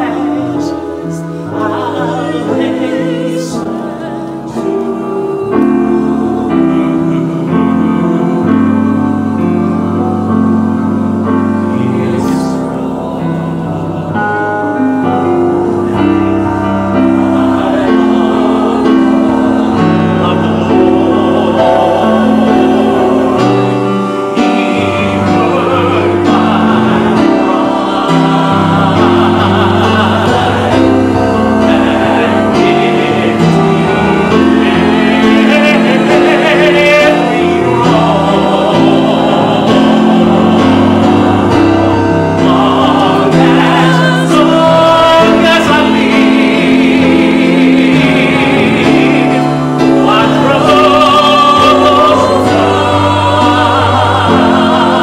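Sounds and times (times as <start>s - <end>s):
church choir singing: 0.0s - 55.0s
electronic keyboard piano: 0.0s - 55.0s.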